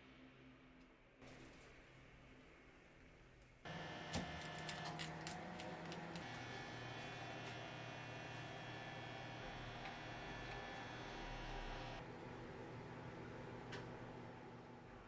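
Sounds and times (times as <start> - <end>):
steady electrical hum: 1.2 - 15.0.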